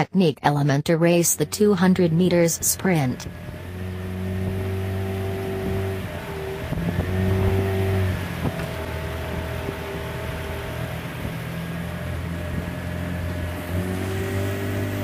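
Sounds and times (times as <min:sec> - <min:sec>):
motorboat engine running: 0:01.1 - 0:15.0
water noise: 0:01.4 - 0:15.0.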